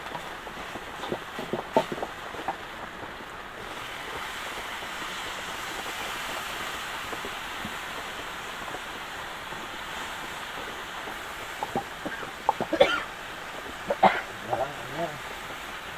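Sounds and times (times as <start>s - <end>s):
heavy rain hissing: 0.0s - 15.9s.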